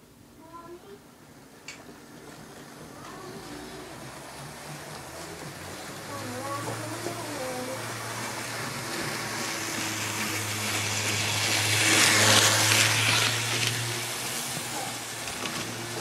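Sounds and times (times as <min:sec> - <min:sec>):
model train hum: 0:00.0 - 0:16.0
train wheels rumbling on rail: 0:02.0 - 0:16.0.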